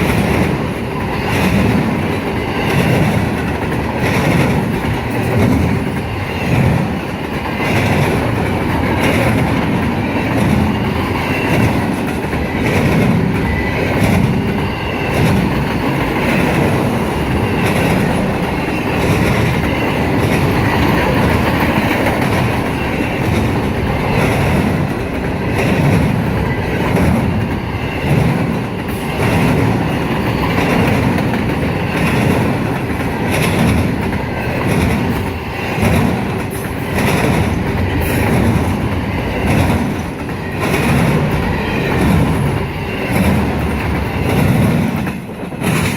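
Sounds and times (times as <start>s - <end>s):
train wheels rumbling on rail: 0.0s - 45.9s
wheels clacking over rail joints: 0.0s - 45.9s.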